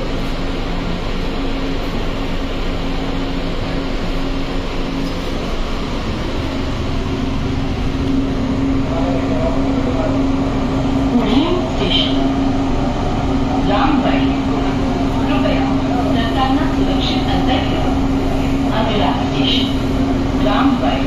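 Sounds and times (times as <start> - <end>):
constant low hum: 0.0 - 21.0
train car rumble: 0.0 - 21.0.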